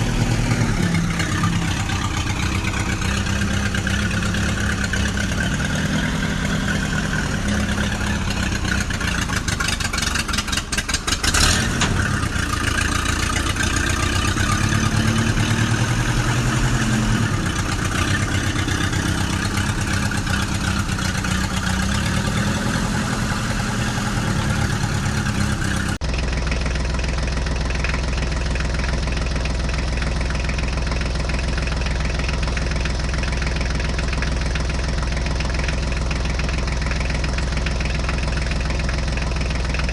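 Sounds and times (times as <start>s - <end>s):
engine clatter: 0.0s - 39.9s
tractor engine running: 0.0s - 39.9s.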